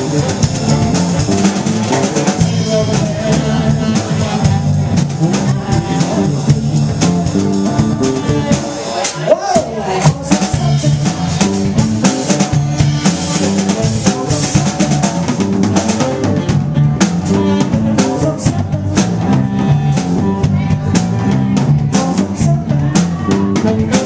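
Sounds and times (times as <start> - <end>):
drum kit beat: 0.0 - 24.0
electric guitar: 0.0 - 24.0.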